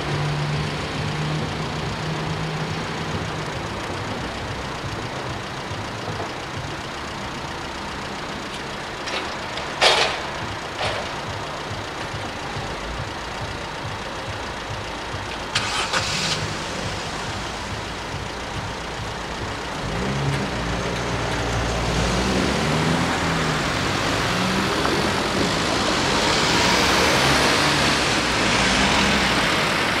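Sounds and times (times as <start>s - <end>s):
car engines accelerating: 0.0s - 30.0s.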